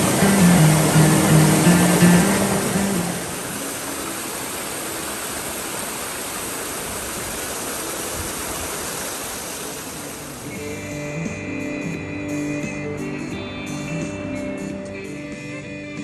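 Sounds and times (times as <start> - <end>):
rushing water: 0.0 - 15.2.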